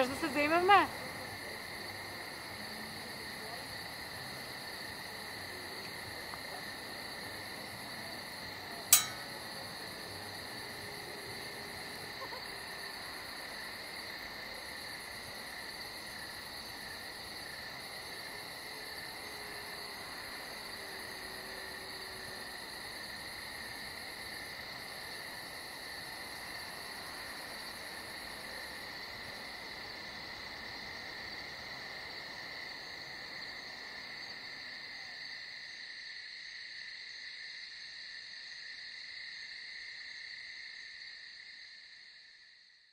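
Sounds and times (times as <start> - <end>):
crickets trilling: 0.0 - 42.9.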